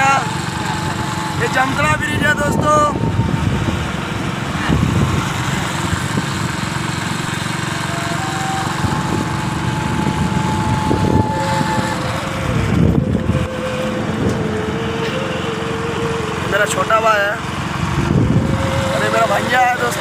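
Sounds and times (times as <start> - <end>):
small motorcycle engine: 0.0 - 20.0
wind rumbling on microphone: 0.5 - 7.0, 8.6 - 16.4, 17.5 - 20.0.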